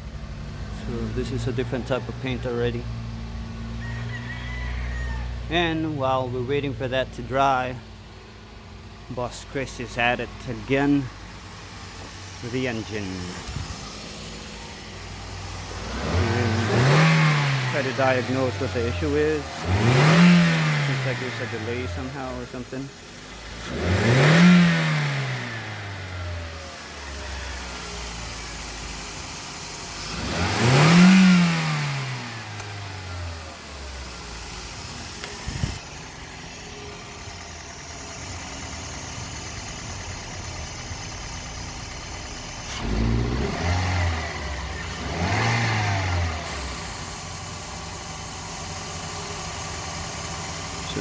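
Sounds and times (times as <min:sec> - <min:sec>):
car engine revving and idling: 0:00.0 - 0:51.0.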